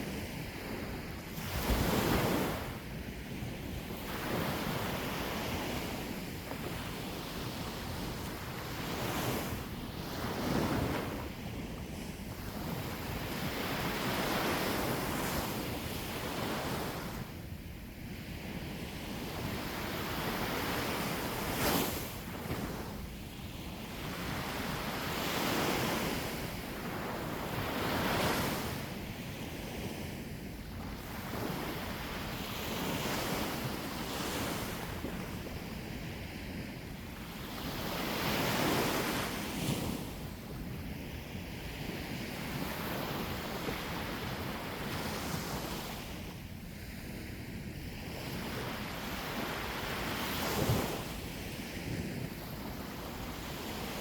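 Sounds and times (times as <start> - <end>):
sea waves breaking on shore: 0.0 - 54.0
wind rumbling on microphone: 0.0 - 54.0.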